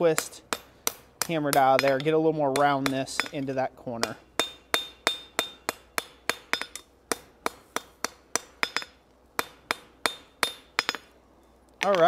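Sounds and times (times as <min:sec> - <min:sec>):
hammer striking metal on anvil: 0:00.1 - 0:11.1.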